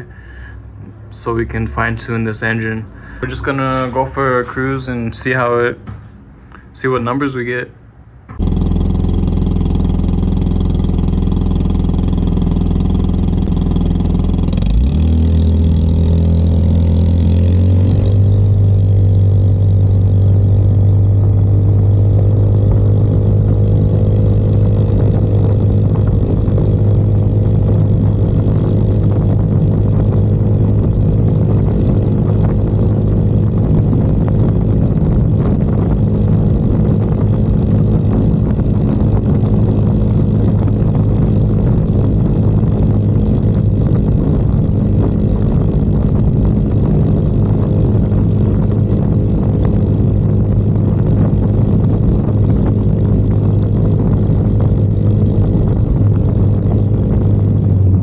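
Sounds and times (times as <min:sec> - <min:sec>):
scooter engine idling and revving: 0:08.3 - 0:58.0.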